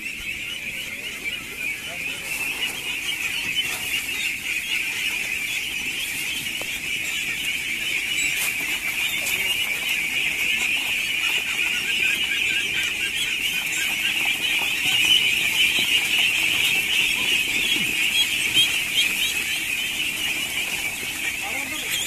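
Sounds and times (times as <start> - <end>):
poultry calling in chorus: 0.0 - 22.0.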